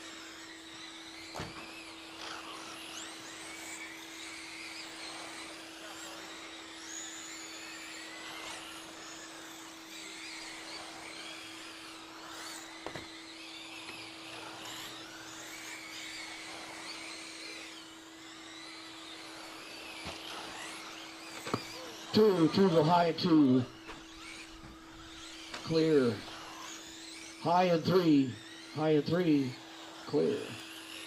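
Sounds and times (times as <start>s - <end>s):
rc truck electric motors whining: 0.0s - 31.0s
steady hum: 0.0s - 31.0s.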